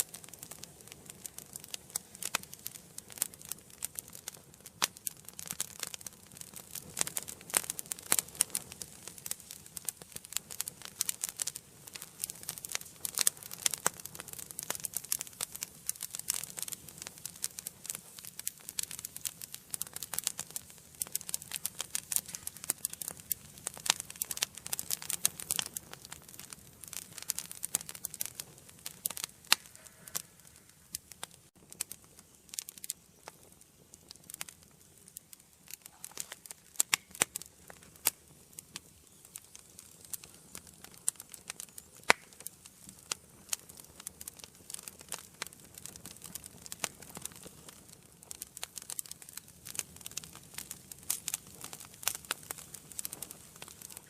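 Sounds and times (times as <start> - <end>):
flame hissing: 0.0 - 54.0
wood fire crackling and popping: 0.0 - 54.0.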